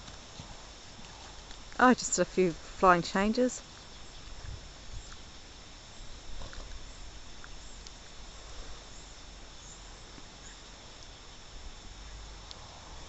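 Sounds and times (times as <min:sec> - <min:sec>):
insect chirring: 0:00.0 - 0:13.0
steady low hiss: 0:00.0 - 0:13.0.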